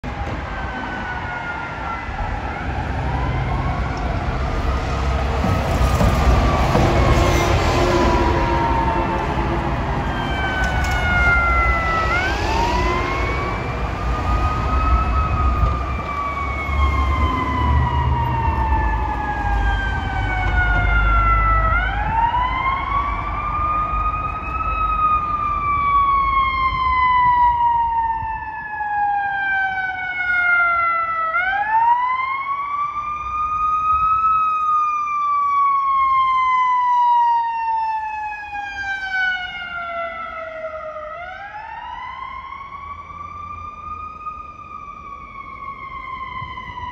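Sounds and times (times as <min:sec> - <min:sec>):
siren wailing: 0:00.0 - 0:46.9.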